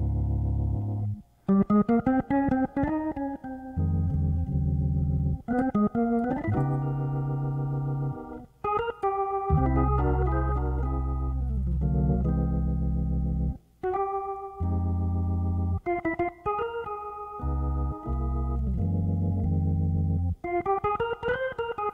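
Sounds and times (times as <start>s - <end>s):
organ playing sustained chords: 0.0s - 21.9s.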